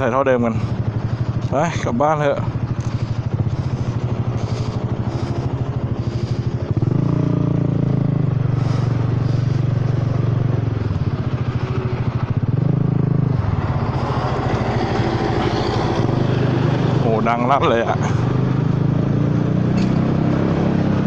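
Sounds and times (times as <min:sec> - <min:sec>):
scooter engine with broken exhaust: 0:00.0 - 0:21.0.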